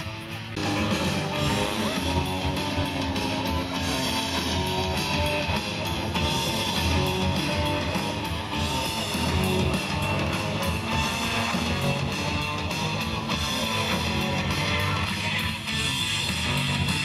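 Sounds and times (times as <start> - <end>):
guitar music with steady beat: 0.0 - 17.0.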